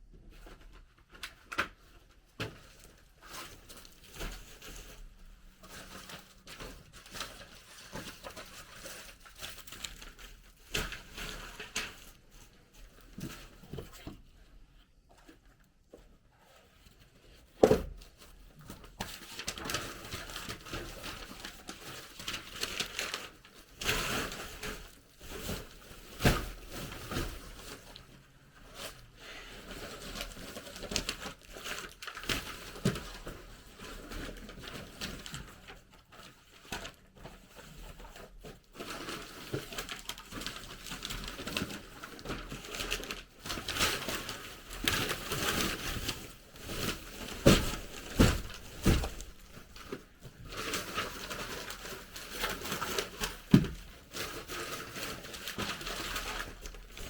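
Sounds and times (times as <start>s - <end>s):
rustling and crinkling: 0.0s - 57.0s.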